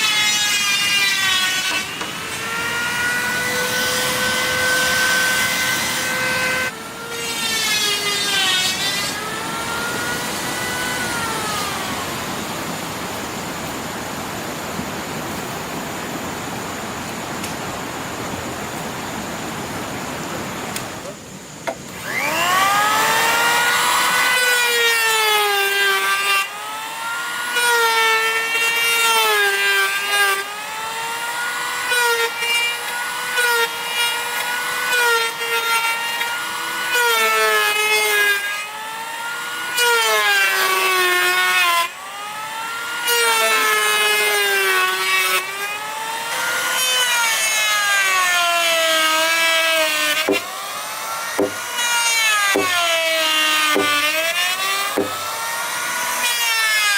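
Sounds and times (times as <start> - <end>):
power tool cutting wood: 0.0 - 14.1, 20.6 - 56.9.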